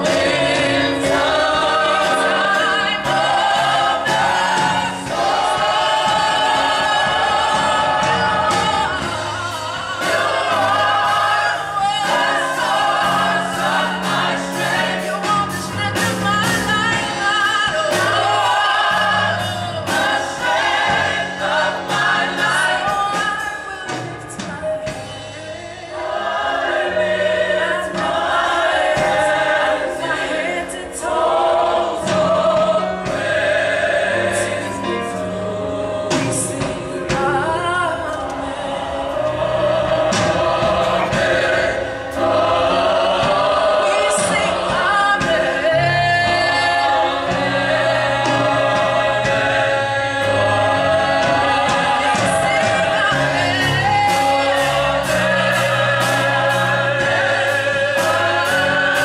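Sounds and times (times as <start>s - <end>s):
drum kit with cymbals: 0.0s - 59.0s
gospel choir singing: 0.0s - 59.0s
keyboard bass line: 0.0s - 59.0s.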